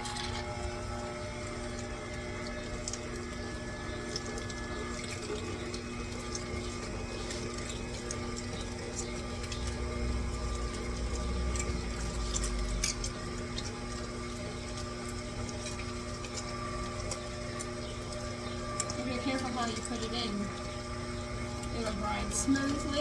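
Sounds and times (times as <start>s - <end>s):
electric meat grinder running: 0.0s - 23.0s.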